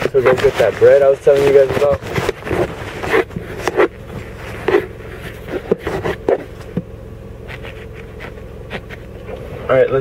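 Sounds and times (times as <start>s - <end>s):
camera handling knocks and rubs: 0.0s - 9.2s
low hum inside a car: 0.0s - 10.0s.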